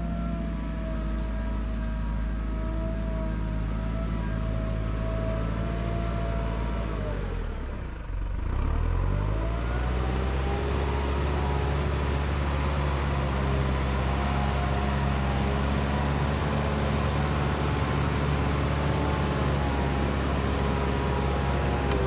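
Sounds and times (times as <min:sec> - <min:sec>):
road noise: 0:00.0 - 0:22.0
vehicle engine humming: 0:00.0 - 0:22.0.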